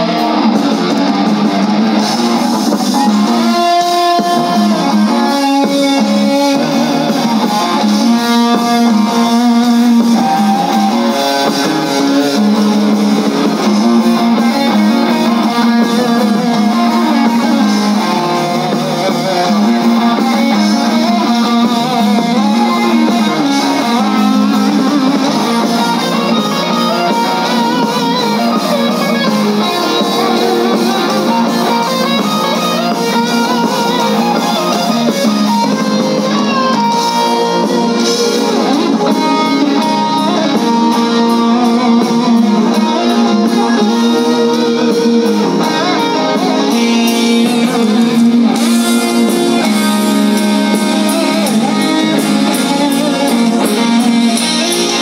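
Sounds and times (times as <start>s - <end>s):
electric guitars: 0.0s - 55.0s
live rock band: 0.0s - 55.0s.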